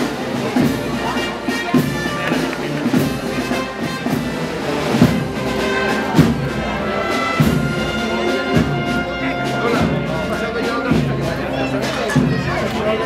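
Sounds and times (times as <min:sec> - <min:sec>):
deep drum strokes: 0:00.0 - 0:12.6
brass band playing march: 0:00.0 - 0:13.0.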